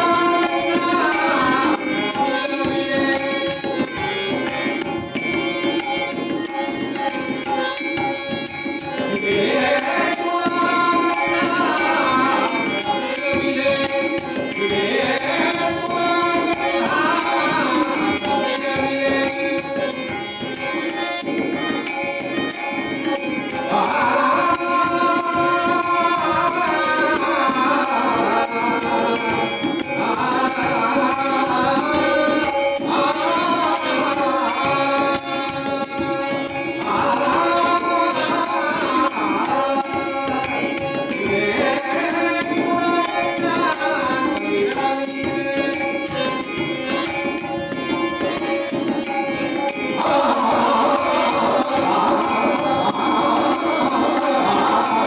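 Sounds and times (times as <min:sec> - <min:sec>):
hand percussion beat: 0:00.0 - 0:55.0
harmonium: 0:00.0 - 0:55.0
man singing devotional song: 0:00.0 - 0:55.0.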